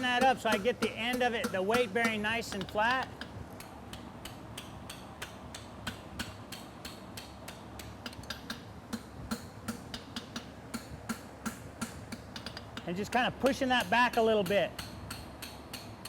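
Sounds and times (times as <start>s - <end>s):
hammer tapping steel on anvil: 0.0s - 16.0s.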